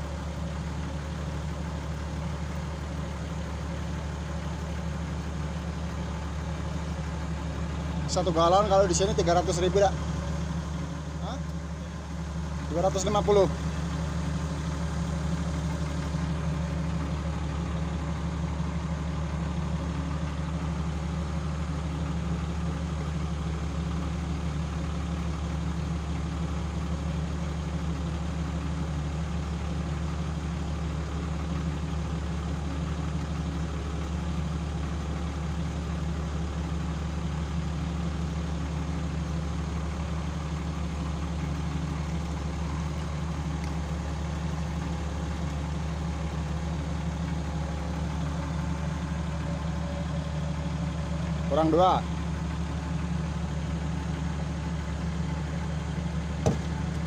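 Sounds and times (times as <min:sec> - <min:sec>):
excavator diesel engine idling: 0:00.0 - 0:57.0.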